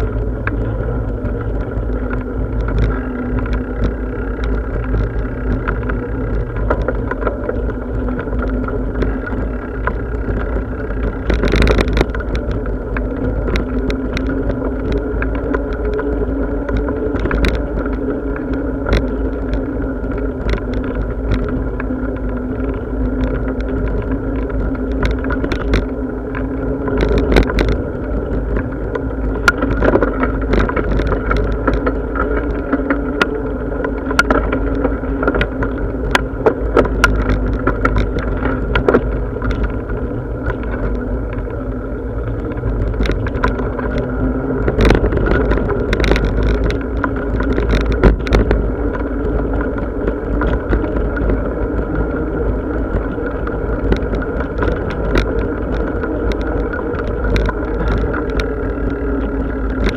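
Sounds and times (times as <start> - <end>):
bicycle clicks and rattles: 0.0 - 59.9
bicycle riding rumble: 0.0 - 59.9.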